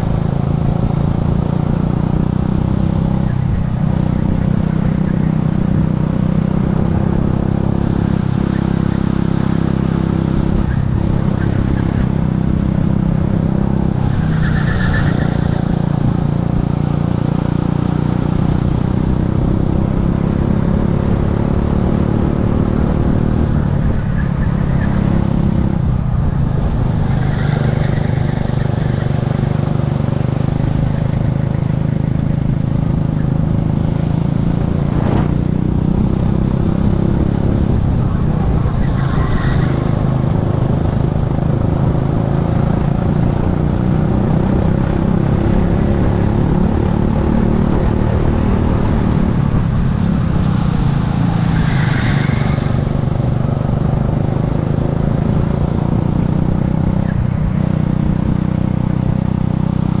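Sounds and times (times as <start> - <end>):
racing kart engine: 0.0 - 60.0.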